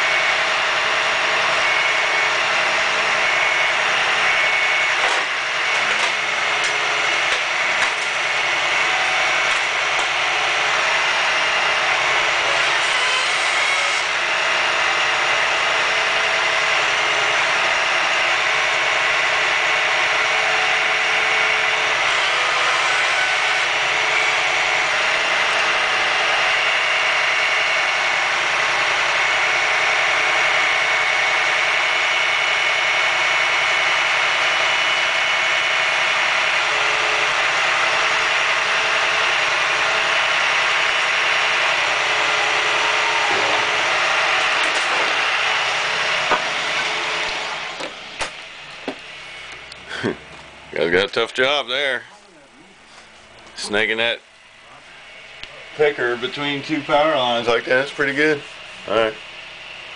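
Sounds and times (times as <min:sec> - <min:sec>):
truck engine running under load: 0:00.0 - 0:12.6, 0:13.8 - 0:52.1
hydraulic whine: 0:00.0 - 0:59.9.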